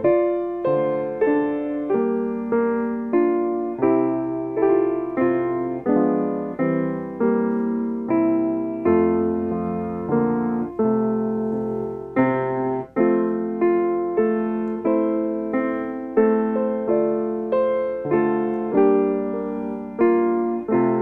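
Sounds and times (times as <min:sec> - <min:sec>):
grand piano chords: 0:00.0 - 0:21.0.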